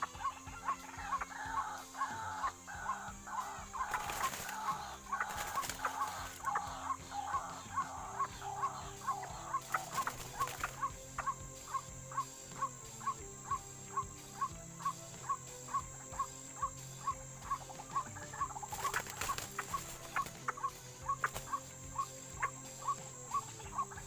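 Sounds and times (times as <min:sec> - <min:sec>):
background music with ticking beat: 0:00.0 - 0:24.0
waterhen clucking calls: 0:00.0 - 0:24.0.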